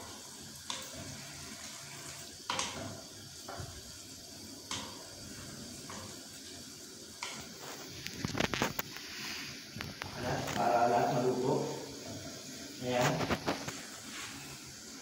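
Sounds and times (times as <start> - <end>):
sauce simmering in frying pan: 0.0 - 15.0.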